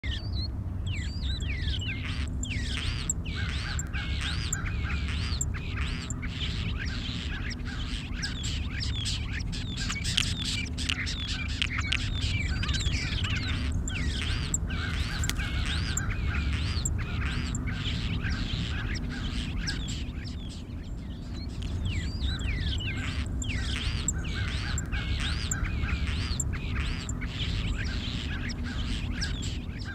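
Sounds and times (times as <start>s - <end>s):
small birds chirping: 0.0s - 29.9s
steady low rumble: 0.0s - 29.9s.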